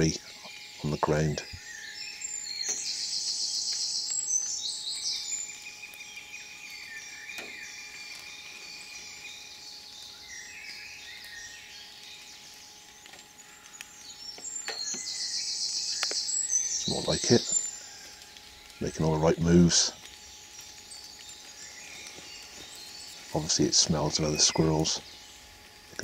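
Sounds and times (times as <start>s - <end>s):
songbird trilling: 0.0s - 12.3s, 13.4s - 26.0s
high whistling birdsong: 0.0s - 26.0s.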